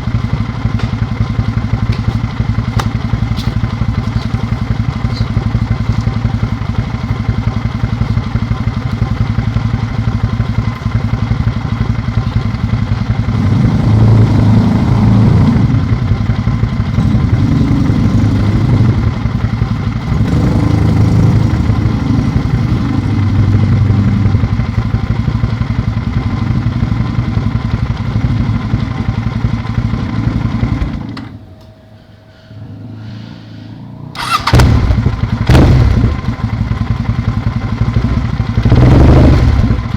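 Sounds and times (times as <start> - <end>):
motorcycle engine deep exhaust: 0.0 - 39.9.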